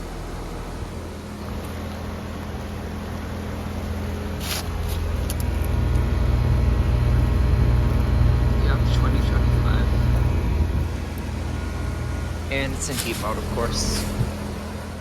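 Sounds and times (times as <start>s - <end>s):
heat pump compressor and fan hum: 0.0s - 15.0s.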